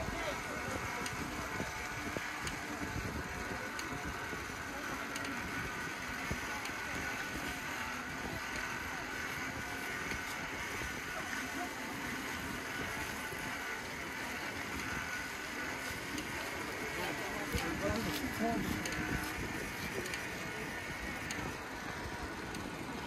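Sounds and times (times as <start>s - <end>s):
bicycle tyre and mechanical noise: 0.0s - 23.0s.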